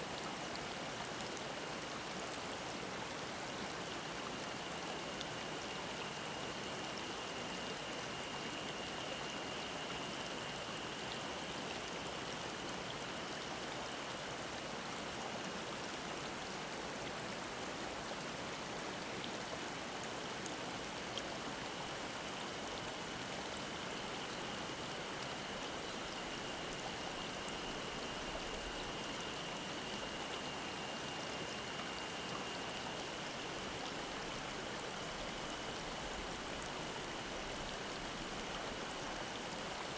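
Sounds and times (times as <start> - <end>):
mountain stream flowing: 0.0 - 39.9
cicada drone: 0.4 - 39.9.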